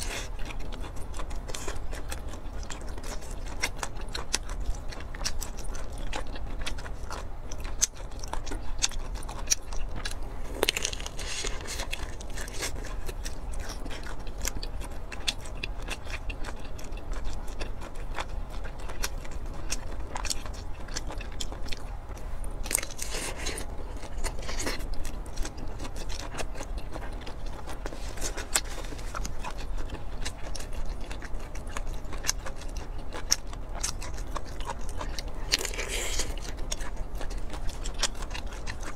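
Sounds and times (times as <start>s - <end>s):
chewing meat: 0.0s - 38.9s
crunchy chewing: 0.0s - 38.9s.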